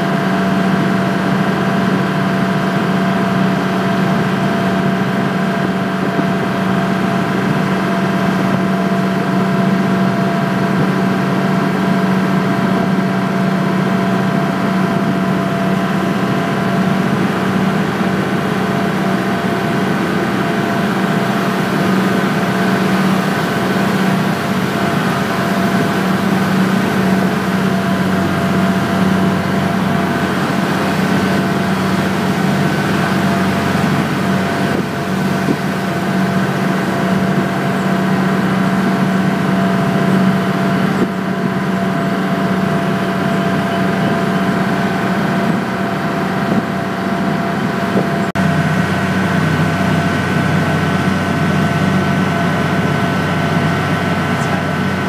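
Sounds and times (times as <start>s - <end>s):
ferry engine droning hum: 0.0s - 55.0s.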